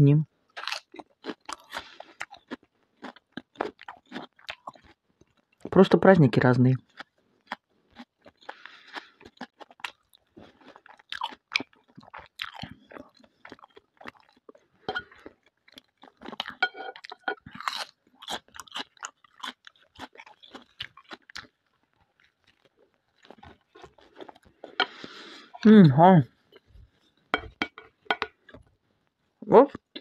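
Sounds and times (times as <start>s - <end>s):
close chewing with mouth clicks: 0.5s - 5.7s, 6.8s - 25.7s.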